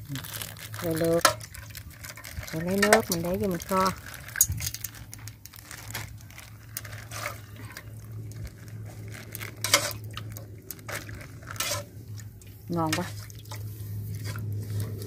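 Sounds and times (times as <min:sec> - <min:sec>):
low steady hum: 0:00.0 - 0:15.0
plastic bag crinkling: 0:00.0 - 0:15.0
ladle scooping and pouring broth: 0:00.4 - 0:15.0.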